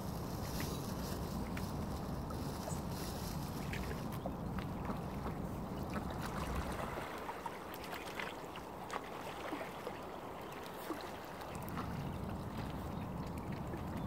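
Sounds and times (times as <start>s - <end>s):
lake water lapping on shore: 0.0s - 14.0s.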